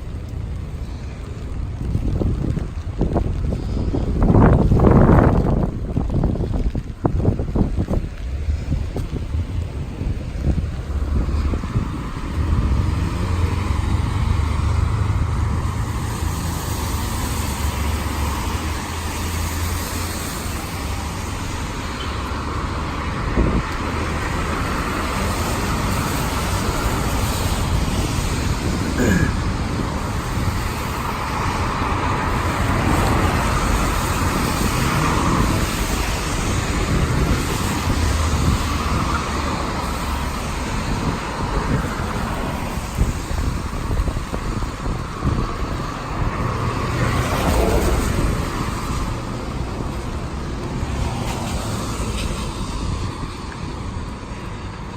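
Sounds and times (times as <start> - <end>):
cars passing on wet pavement: 0.0 - 54.9
steady rain: 0.0 - 54.9.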